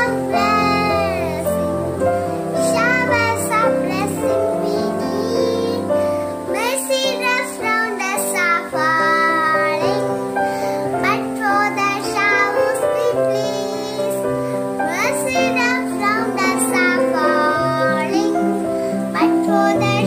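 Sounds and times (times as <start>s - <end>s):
girl singing: 0.0s - 20.0s
instrumental accompaniment: 0.0s - 20.0s.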